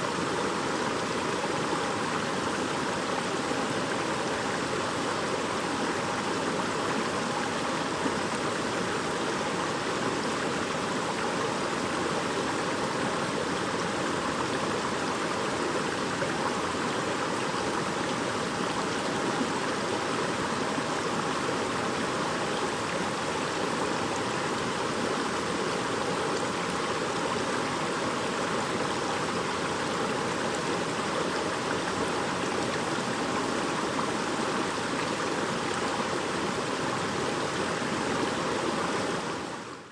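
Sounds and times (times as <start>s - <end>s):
stream babbling over stones: 0.0s - 39.8s.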